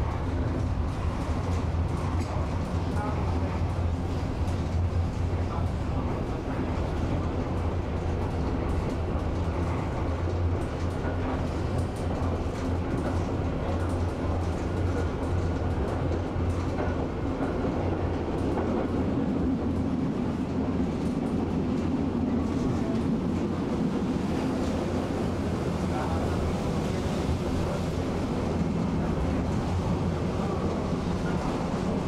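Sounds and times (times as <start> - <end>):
tram wheels running on rails: 0.0 - 32.0.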